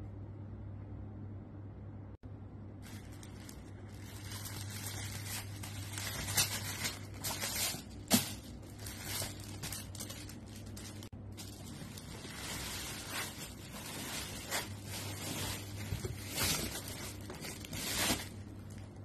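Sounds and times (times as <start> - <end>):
tissue paper rustling and crinkling: 2.8 - 19.0.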